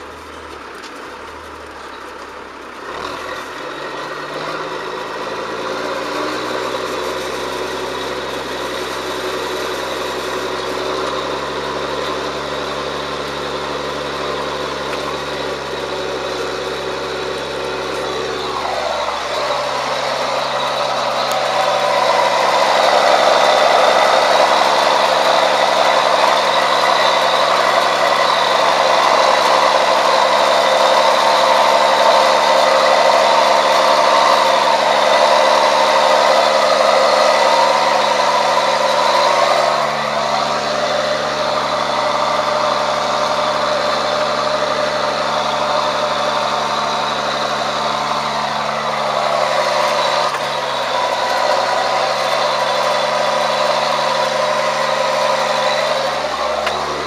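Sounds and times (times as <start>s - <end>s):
tractor diesel engine under load: 0.0s - 57.0s
steady high whine: 3.4s - 57.0s.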